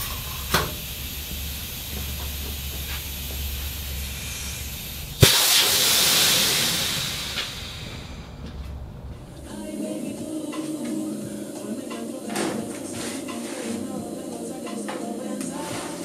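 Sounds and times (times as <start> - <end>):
machine low hum: 0.0 - 5.3, 6.4 - 14.6
loud hiss: 0.0 - 16.0.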